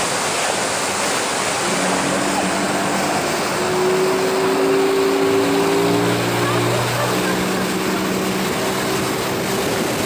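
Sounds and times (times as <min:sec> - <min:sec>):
waterfall rushing: 0:00.0 - 0:10.0
engine humming: 0:01.1 - 0:10.0.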